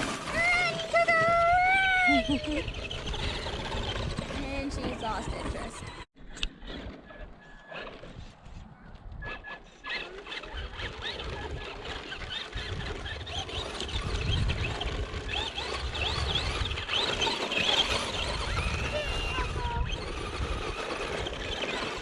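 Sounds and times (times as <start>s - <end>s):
tyres rumbling on ground: 0.0s - 7.8s, 9.9s - 22.0s
rc car motor whining: 0.0s - 8.3s, 9.2s - 22.0s.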